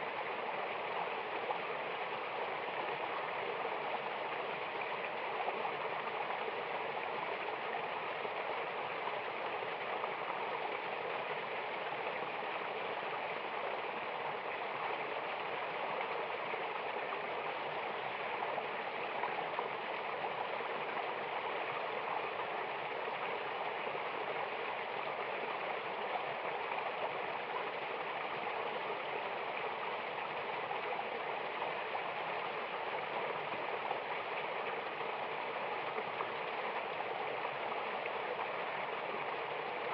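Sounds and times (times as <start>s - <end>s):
water rushing down a waterfall: 0.0s - 39.9s.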